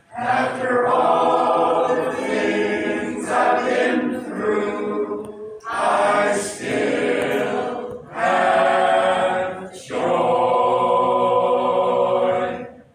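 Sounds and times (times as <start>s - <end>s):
choir singing gospel: 0.0s - 12.9s.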